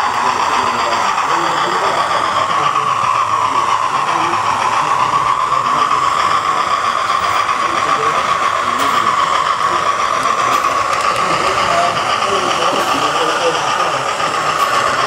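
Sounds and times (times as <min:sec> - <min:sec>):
model train wheels on track: 0:00.0 - 0:15.0
steam locomotive sound effect: 0:00.0 - 0:15.0.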